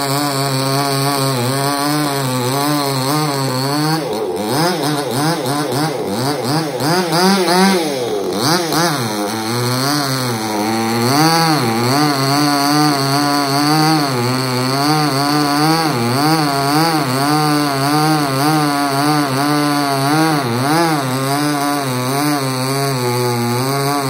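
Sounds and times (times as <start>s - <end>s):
chainsaw cutting wood: 0.0s - 24.0s.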